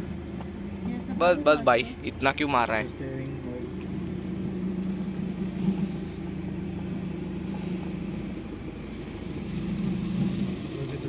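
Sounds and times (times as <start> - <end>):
car engine hum from cabin: 0.0 - 11.0.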